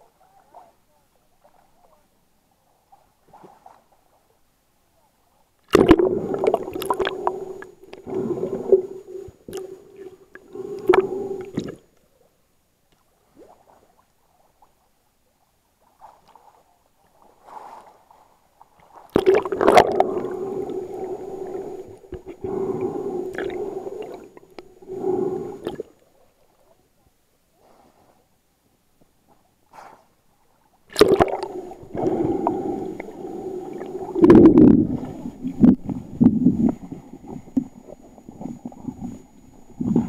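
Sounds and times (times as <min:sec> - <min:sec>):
water gurgling and sloshing: 0:00.0 - 0:04.6, 0:05.6 - 0:12.3, 0:13.0 - 0:26.9, 0:29.2 - 0:40.0.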